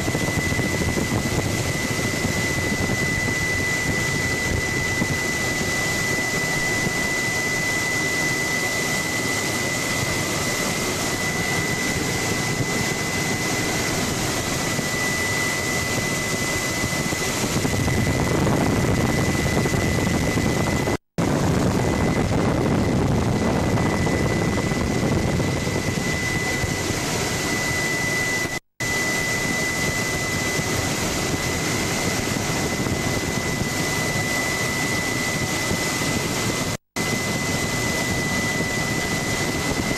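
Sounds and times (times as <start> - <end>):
helicopter engine and rotor noise: 0.0 - 39.9
high whine: 0.0 - 39.9.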